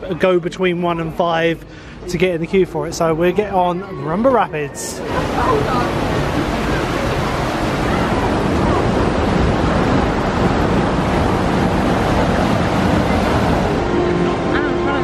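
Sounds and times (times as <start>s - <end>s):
churning water rushing: 0.0s - 15.0s.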